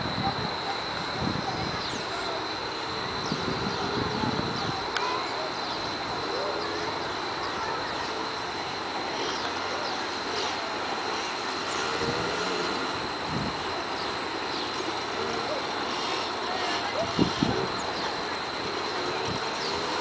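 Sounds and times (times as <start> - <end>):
constant high whine: 0.0 - 20.0
dirt bike engines revving: 1.8 - 20.0.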